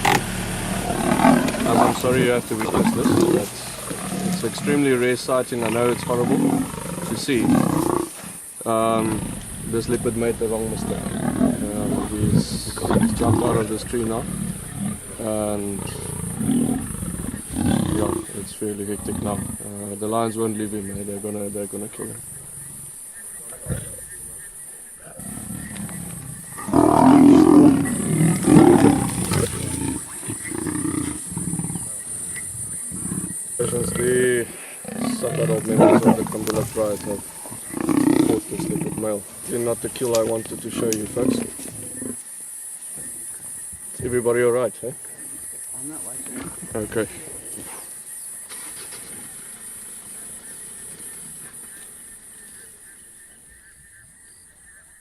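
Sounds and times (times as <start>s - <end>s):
lions growling: 0.0s - 53.4s
big cats fighting: 0.0s - 55.0s
bird calls: 0.0s - 55.0s.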